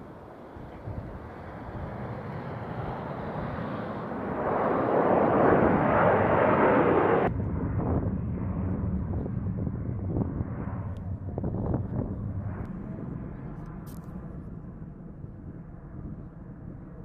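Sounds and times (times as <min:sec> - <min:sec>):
jet engines roaring: 0:00.0 - 0:16.9
distant jets rumbling: 0:00.0 - 0:17.0.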